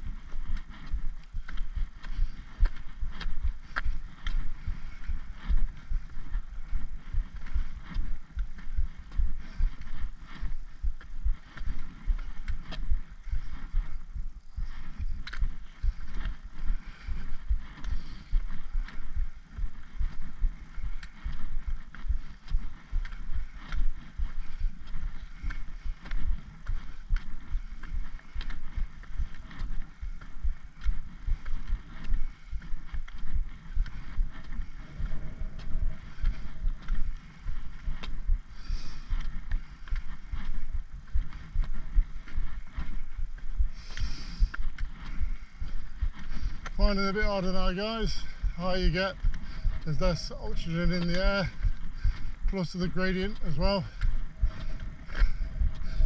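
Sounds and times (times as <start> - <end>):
footsteps on tarmac: 0.0 - 56.0
wind buffeting microphone: 0.0 - 56.0.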